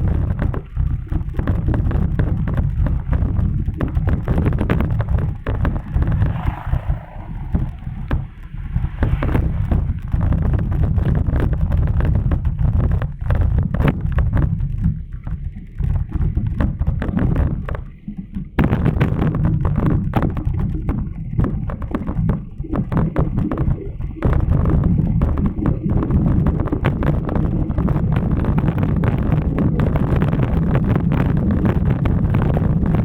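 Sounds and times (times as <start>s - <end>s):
bicycle knocks and rattles: 0.0s - 33.0s
wind buffeting microphone: 0.0s - 33.0s.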